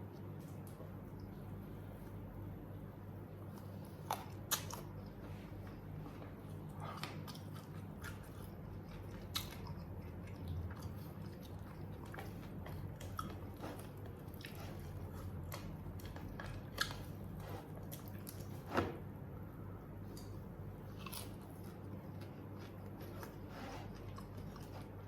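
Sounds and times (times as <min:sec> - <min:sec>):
steady low hum: 0:00.0 - 0:25.0
chewing crispy fried chicken: 0:03.4 - 0:18.6, 0:20.1 - 0:25.0.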